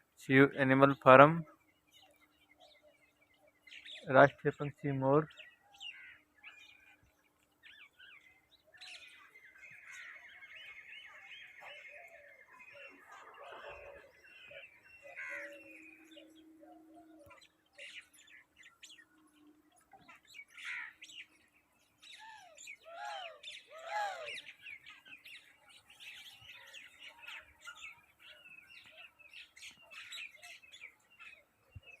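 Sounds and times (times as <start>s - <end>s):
birds chirping: 0.0s - 32.0s
rising and falling bird calls: 0.6s - 32.0s.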